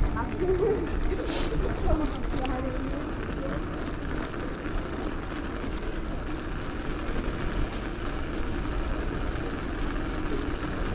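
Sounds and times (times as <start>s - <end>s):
wind rumble on microphone: 0.0s - 10.9s.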